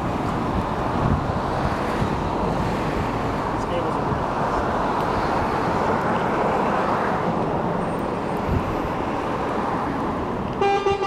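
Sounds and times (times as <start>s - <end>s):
steady road traffic rush: 0.0s - 11.0s.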